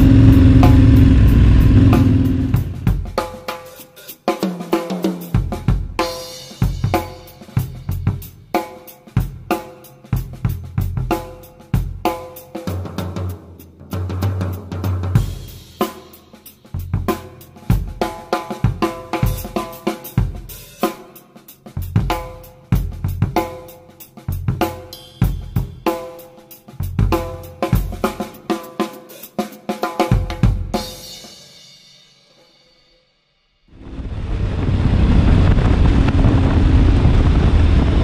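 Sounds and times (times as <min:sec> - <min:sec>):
drum-kit music with chords: 0:00.0 - 0:32.4.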